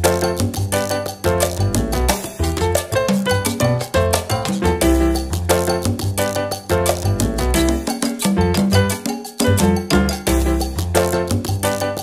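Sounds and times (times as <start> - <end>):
latin dance music: 0.0 - 12.0.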